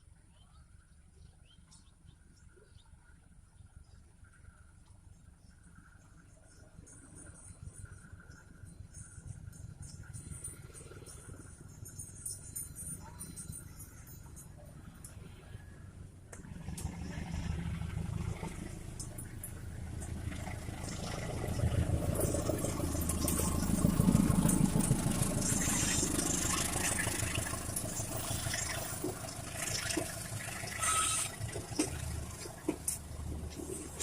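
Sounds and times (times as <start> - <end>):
locomotive engine hum: 3.2 - 34.0
wheels clicking on rails: 6.7 - 34.0.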